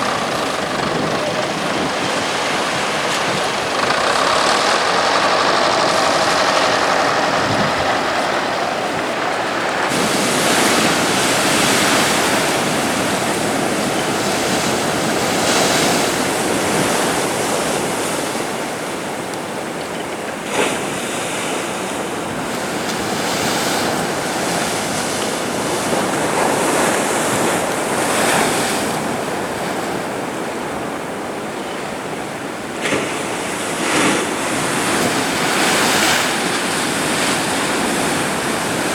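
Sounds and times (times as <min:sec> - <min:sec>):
waves crashing: 0:00.0 - 0:19.7, 0:20.4 - 0:38.9
surf breaking on sandy beach: 0:00.0 - 0:38.9.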